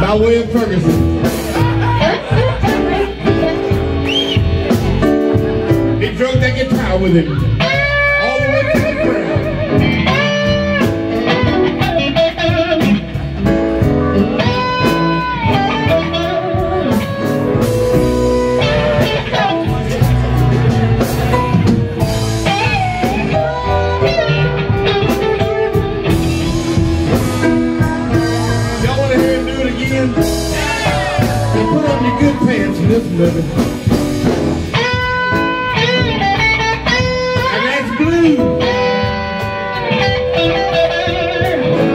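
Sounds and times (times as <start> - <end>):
electric blues guitar solo: 0.0 - 41.9
full band playing: 0.0 - 41.9.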